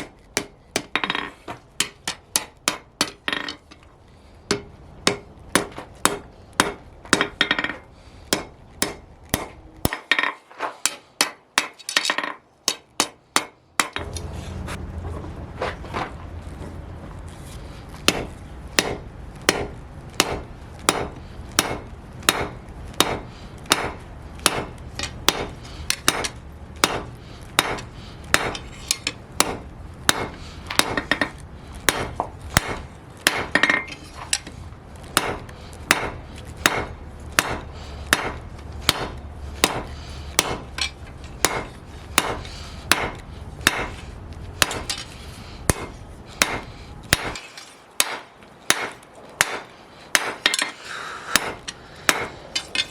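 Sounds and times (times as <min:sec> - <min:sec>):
hammer striking steel on anvil: 0:00.0 - 0:03.8, 0:04.5 - 0:14.3, 0:18.1 - 0:34.5, 0:35.2 - 0:44.0, 0:44.6 - 0:52.9.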